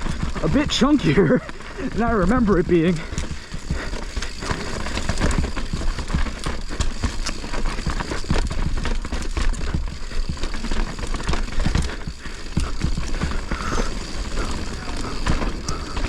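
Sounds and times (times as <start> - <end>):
bike clattering over rocks: 0.0 - 16.0.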